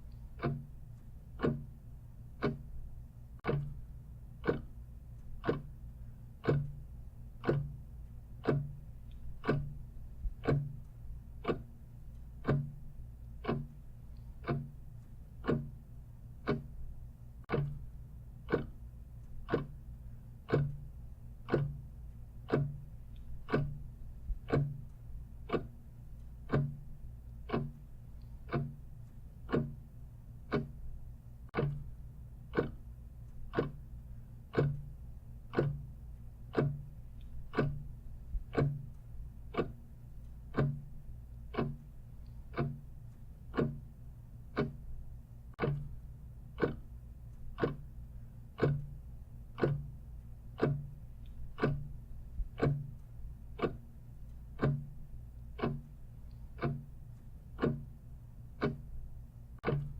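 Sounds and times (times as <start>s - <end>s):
clock ticking: 0.0s - 59.9s
low steady hum: 0.0s - 59.9s.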